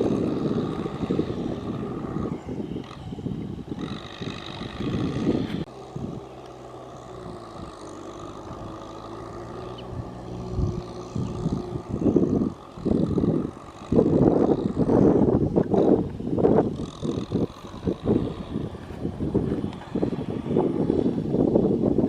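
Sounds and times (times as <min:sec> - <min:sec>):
tractor engine running: 0:00.0 - 0:21.8
rough noise: 0:00.0 - 0:22.0.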